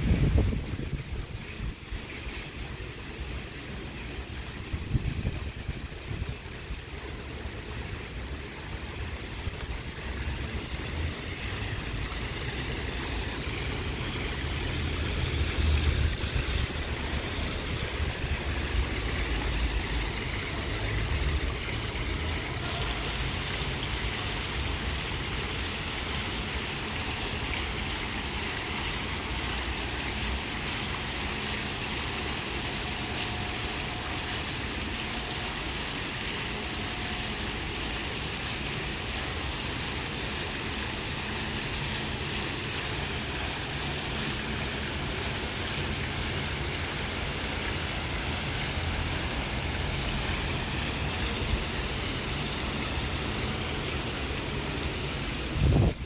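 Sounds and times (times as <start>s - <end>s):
fountain water splashing: 0.0s - 56.0s
water pouring into pool: 0.5s - 56.0s.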